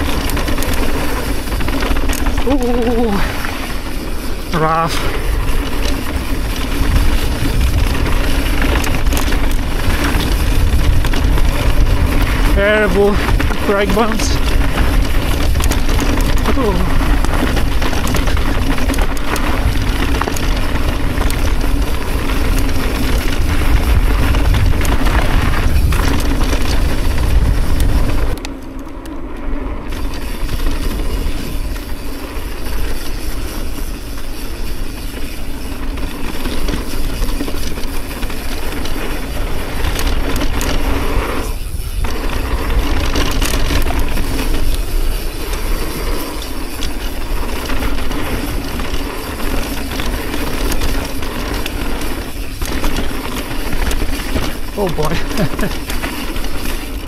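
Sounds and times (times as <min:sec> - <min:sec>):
bike tyres rumbling and rattling: 0:00.0 - 0:57.0.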